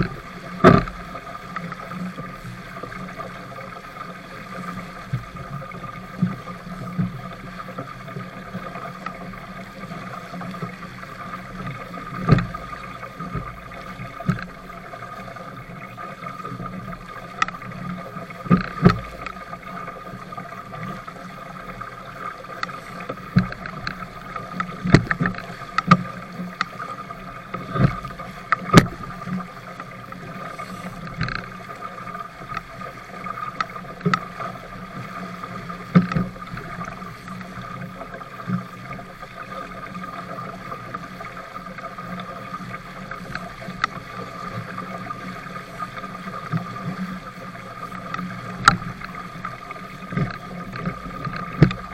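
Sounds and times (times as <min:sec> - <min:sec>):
water rushing: 0:00.0 - 0:51.9
waves knocking against hull: 0:00.0 - 0:51.9
wind: 0:00.0 - 0:51.9.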